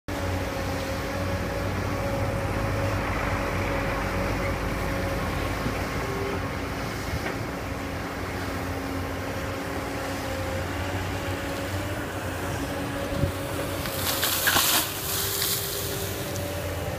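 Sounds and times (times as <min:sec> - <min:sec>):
excavator diesel engine running: 0:00.1 - 0:16.9
hydraulics working: 0:00.1 - 0:16.9.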